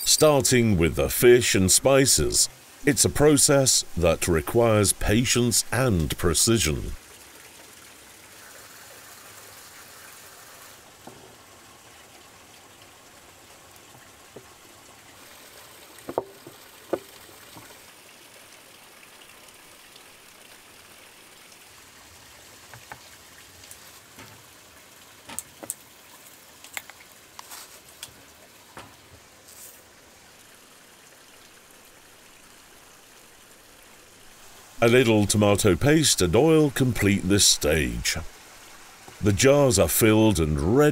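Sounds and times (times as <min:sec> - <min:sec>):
running water trickling: 0:00.0 - 0:40.9.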